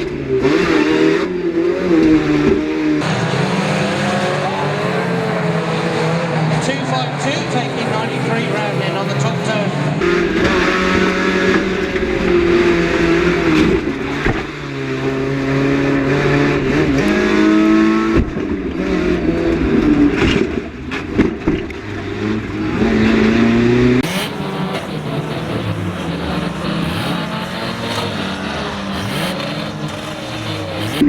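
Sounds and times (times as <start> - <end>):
racing car engine revving: 0.0 - 31.0.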